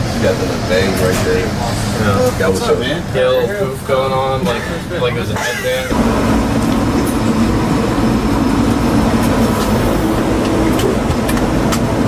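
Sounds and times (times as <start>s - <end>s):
machinery and ventilation rumble: 0.0s - 12.0s.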